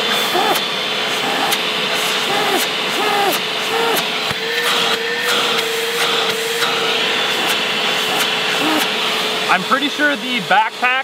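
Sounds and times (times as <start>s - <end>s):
air rushing through hose: 0.0s - 9.5s
vacuum motor whine: 0.0s - 11.0s.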